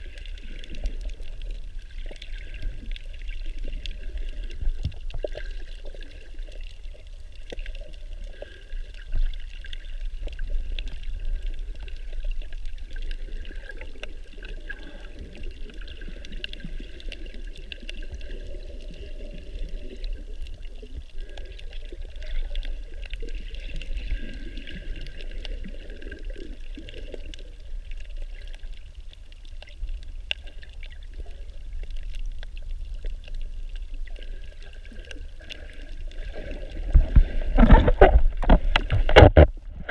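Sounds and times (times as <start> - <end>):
faint clicks: 0.0 - 39.9
muffled water sloshing: 0.0 - 39.9.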